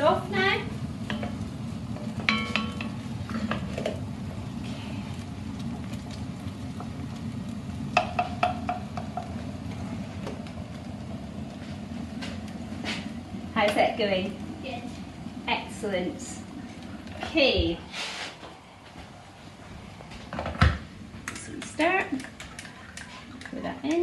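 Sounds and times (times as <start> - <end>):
low hum: 0.0 - 23.5.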